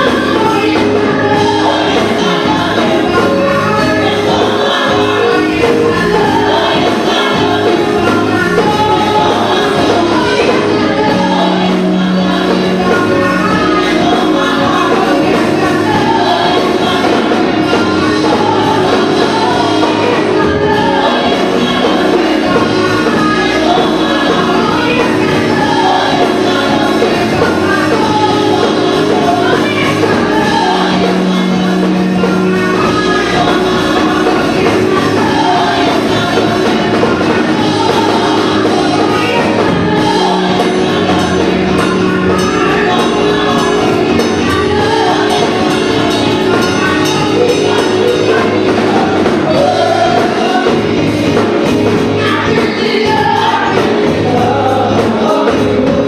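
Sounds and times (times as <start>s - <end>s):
gospel choir singing: 0.0s - 56.0s
live band playing: 0.0s - 56.0s.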